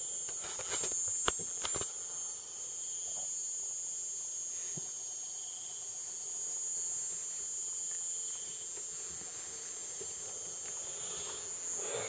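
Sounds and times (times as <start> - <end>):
night insects droning: 0.0 - 12.0.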